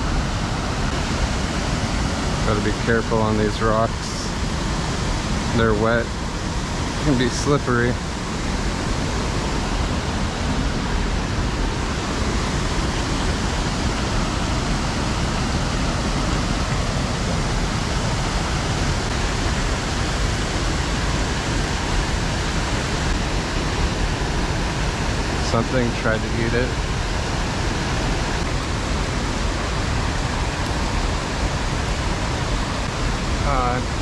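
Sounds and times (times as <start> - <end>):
water rushing over spillway: 0.0 - 34.0.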